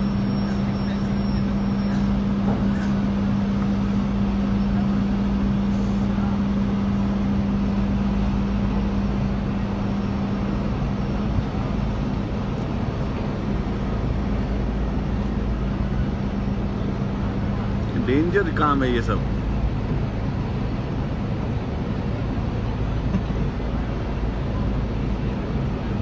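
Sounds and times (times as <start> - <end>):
large engine running: 0.0 - 26.0.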